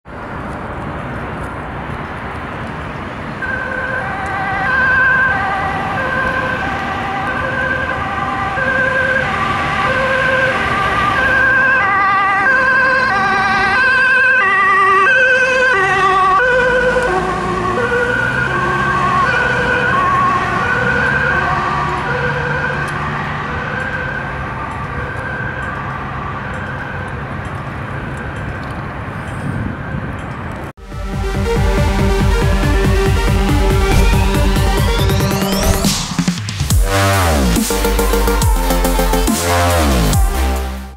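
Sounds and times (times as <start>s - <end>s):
vehicle engine and tyres passing: 0.1s - 30.7s, 32.8s - 36.8s
ambulance two-tone siren: 3.3s - 28.4s, 30.8s - 40.9s.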